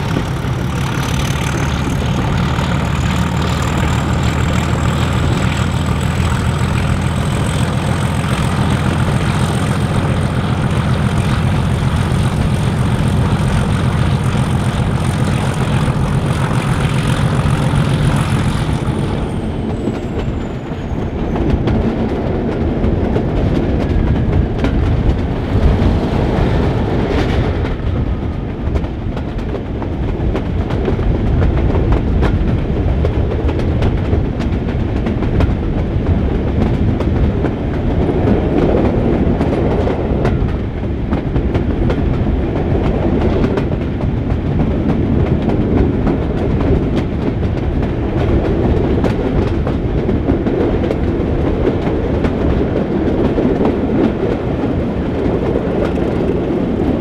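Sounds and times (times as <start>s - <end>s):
train rumble: 0.0s - 57.0s
wheels clicking over rail joints: 0.0s - 57.0s.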